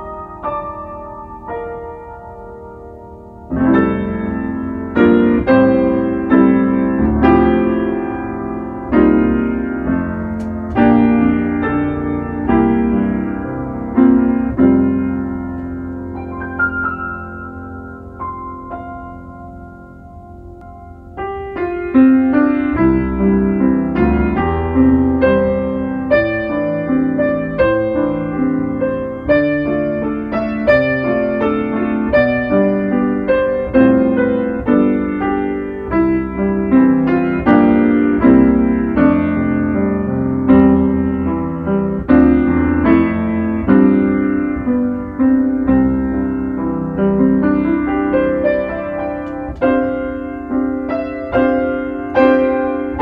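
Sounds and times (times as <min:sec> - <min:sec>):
solo piano music: 0:00.0 - 0:53.0.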